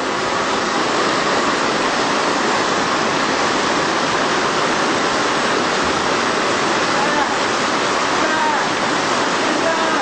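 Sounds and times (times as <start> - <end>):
river rapids rushing over rocks: 0.0 - 10.0.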